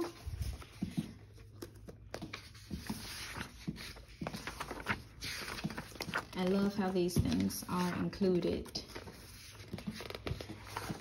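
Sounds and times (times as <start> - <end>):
pages turning: 0.0 - 11.0.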